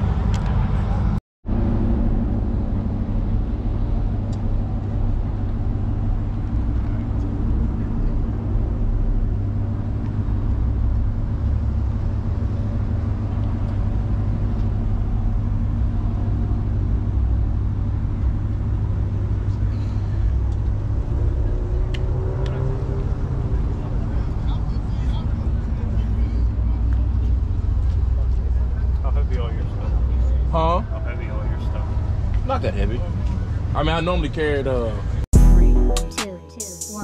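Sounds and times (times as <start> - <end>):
car engine running: 1.5 - 34.2.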